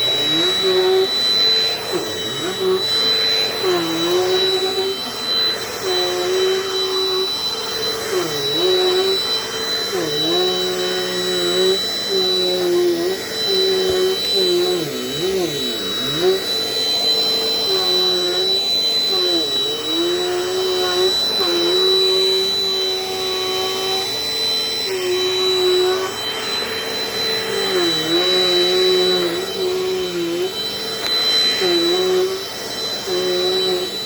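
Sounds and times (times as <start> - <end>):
vacuum cleaner whining: 0.0 - 34.0.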